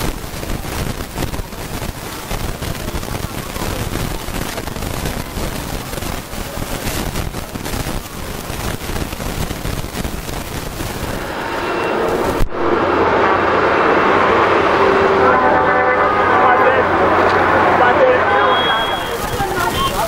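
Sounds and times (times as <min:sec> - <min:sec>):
street noise roar: 0:00.0 - 0:20.0.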